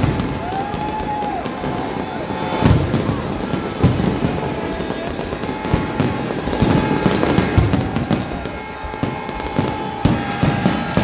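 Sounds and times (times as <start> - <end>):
fireworks bangs and booms: 0.0 - 11.0.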